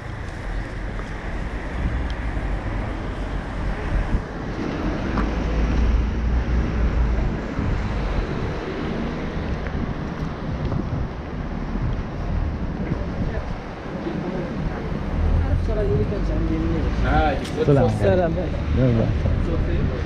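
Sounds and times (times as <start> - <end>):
outdoor background noise: 0.0 - 20.0
wind rumbling on microphone: 0.0 - 20.0.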